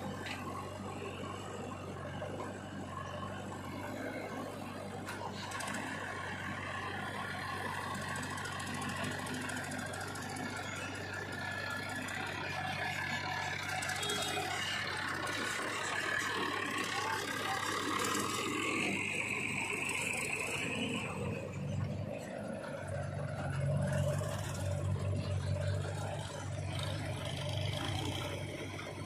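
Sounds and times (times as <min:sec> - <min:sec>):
diesel engines running: 0:00.0 - 0:29.0.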